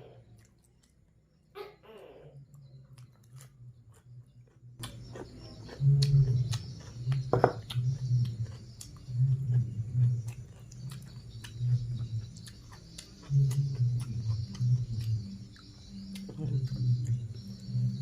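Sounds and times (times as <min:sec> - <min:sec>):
chewing and wet mouth clicks: 0:02.9 - 0:17.7.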